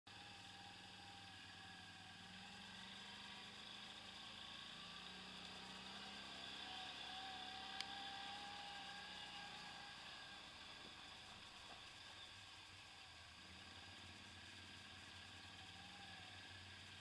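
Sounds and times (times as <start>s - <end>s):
quad bike engine humming: 0.1s - 17.0s.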